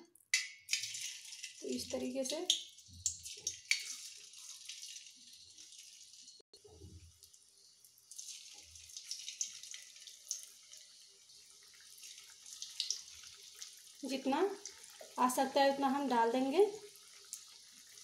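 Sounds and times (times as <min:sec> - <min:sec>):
batter frying in hot oil: 0:00.4 - 0:18.0.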